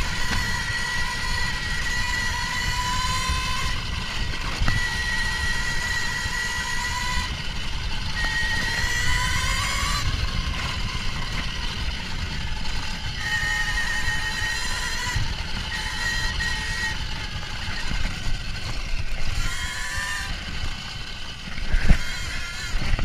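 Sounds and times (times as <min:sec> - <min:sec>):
electric motorbike motor whining: 0:00.0 - 0:23.0
rumble of wind and tyres: 0:00.0 - 0:23.0.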